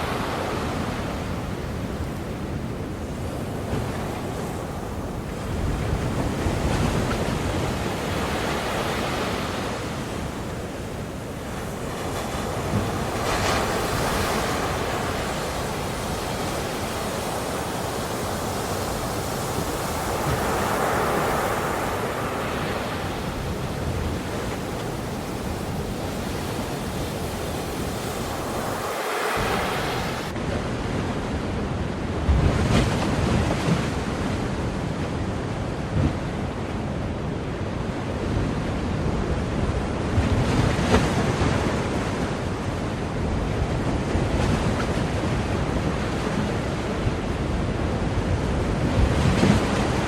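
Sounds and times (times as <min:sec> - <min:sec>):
ocean waves washing onto shore: 0:00.0 - 0:50.0.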